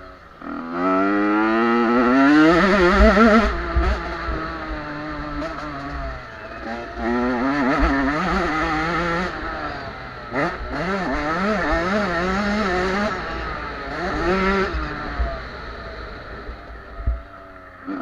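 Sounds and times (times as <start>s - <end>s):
two-stroke motocross engines revving: 0.0s - 18.0s.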